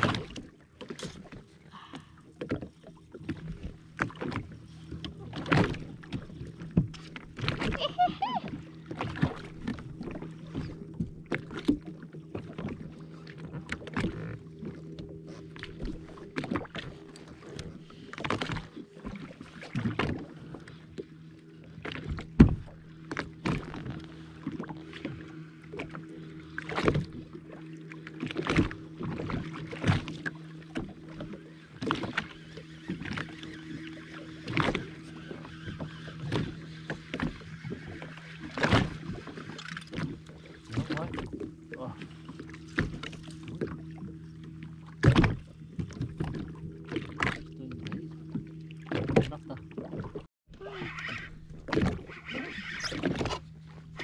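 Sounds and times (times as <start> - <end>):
jet ski engine idling: 1.4 - 19.0, 20.3 - 49.8.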